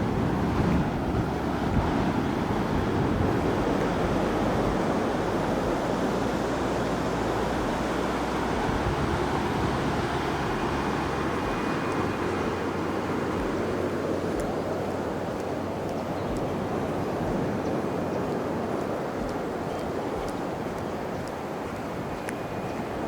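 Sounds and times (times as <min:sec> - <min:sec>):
ocean waves breaking on beach: 0:00.0 - 0:23.0
wind rumble on microphone: 0:00.0 - 0:23.0.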